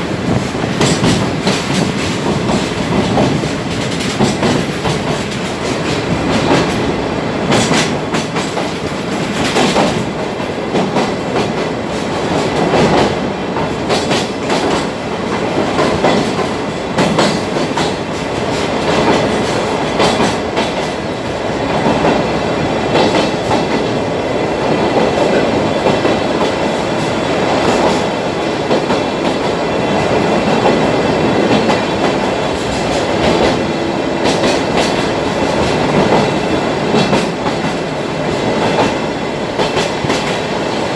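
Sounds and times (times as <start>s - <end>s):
train wheels rumbling on rail: 0.0s - 40.9s
wheels clacking over rail joints: 0.0s - 40.9s.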